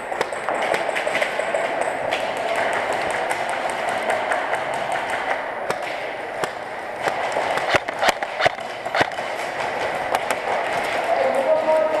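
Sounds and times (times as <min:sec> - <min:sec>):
airsoft gun shots: 0:00.2 - 0:10.5.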